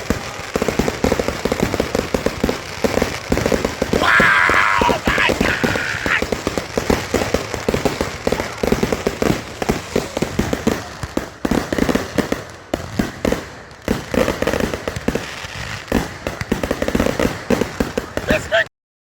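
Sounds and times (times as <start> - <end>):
fireworks crackling pops: 0.0 - 18.6.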